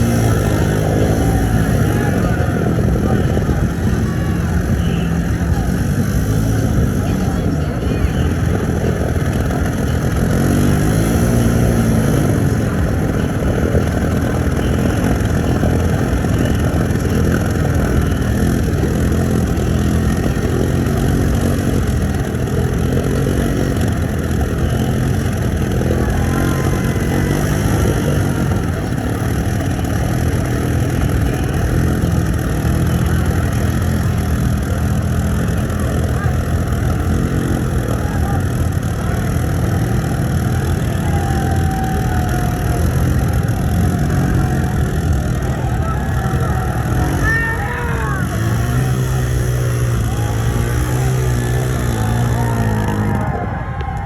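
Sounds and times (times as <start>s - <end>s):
atv engines revving: 0.0s - 54.0s.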